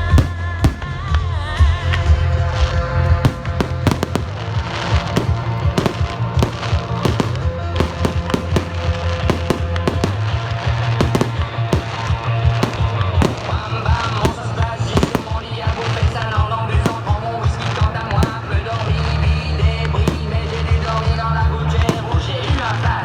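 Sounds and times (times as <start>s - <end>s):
fireworks bangs and cracks: 0.0s - 23.0s
music with heavy bass: 0.0s - 23.0s.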